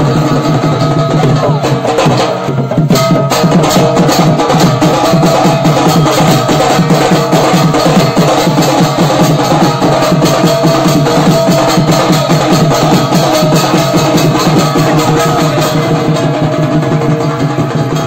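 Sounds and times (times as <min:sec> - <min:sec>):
fast dense drumming: 0:00.0 - 0:18.0.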